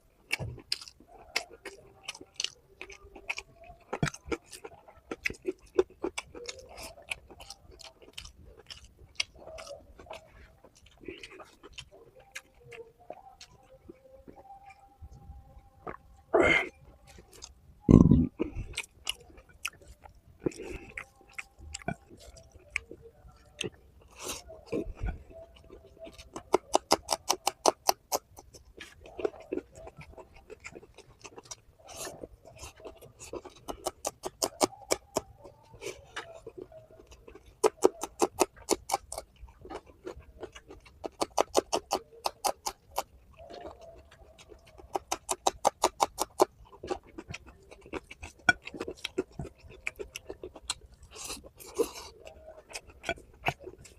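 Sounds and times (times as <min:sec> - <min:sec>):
person chewing with wet smacks: 0:00.0 - 0:53.9.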